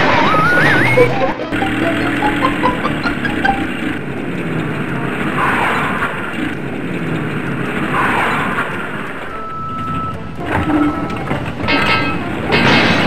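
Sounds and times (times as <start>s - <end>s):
cartoon truck engine: 0.0s - 13.0s.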